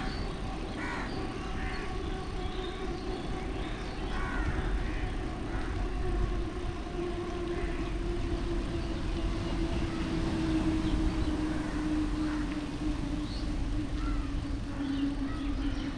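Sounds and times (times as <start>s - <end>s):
steady hum: 0.0s - 15.9s
wind and road noise: 0.0s - 15.9s.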